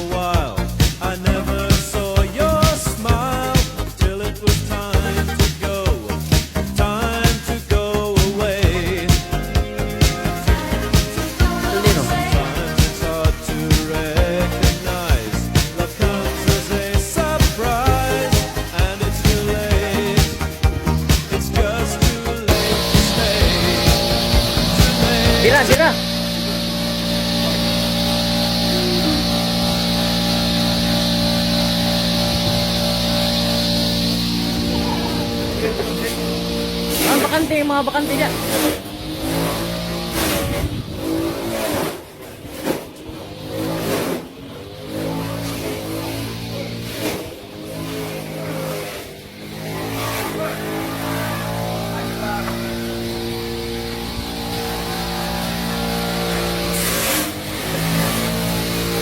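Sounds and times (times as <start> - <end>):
engine machine droning: 0.0 - 59.0.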